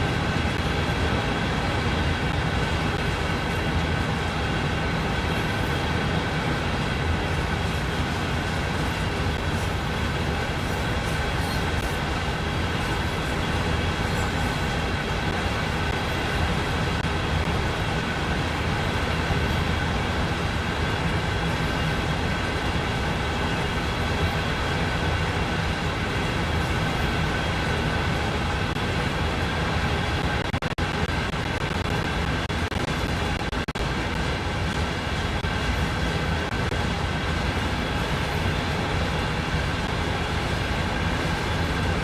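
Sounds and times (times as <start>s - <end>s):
freight train rumbling: 0.0s - 42.0s.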